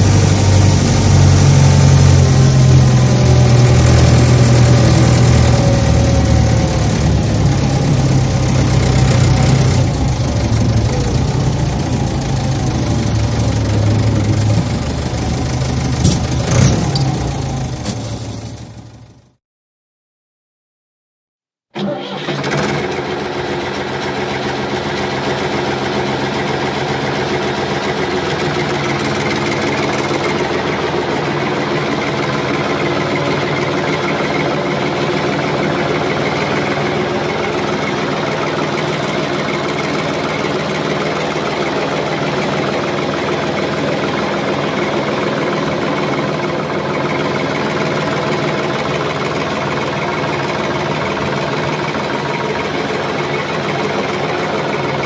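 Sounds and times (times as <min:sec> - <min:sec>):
engine running steadily: 0:00.0 - 0:19.4, 0:21.8 - 0:55.0.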